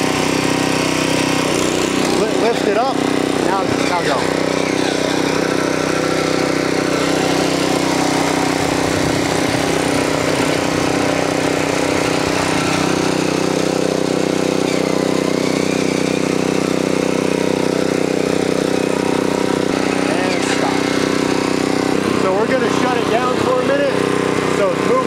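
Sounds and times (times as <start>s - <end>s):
tiller engine running: 0.0s - 25.0s
tines digging ground: 0.0s - 25.0s.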